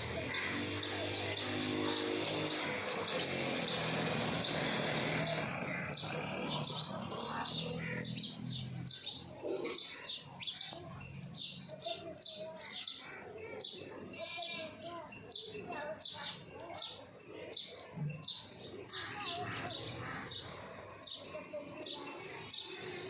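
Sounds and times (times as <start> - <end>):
sparrows chirping: 0.0 - 23.0.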